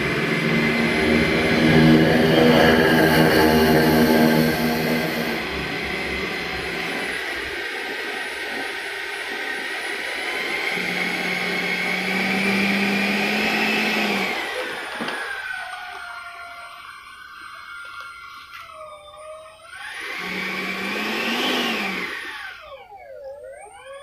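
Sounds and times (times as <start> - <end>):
electric ducted fan whine: 0.0 - 24.0.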